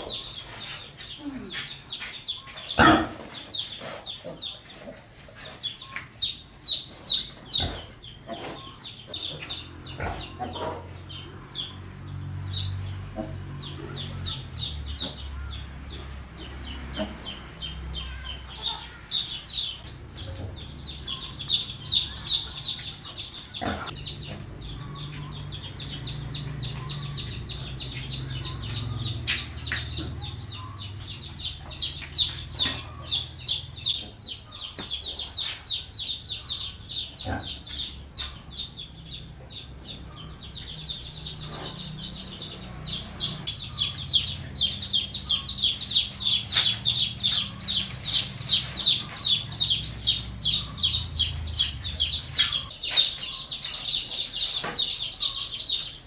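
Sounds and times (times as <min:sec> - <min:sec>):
chickens clucking: 0:00.0 - 0:56.0
high chick peeps: 0:00.0 - 0:56.0.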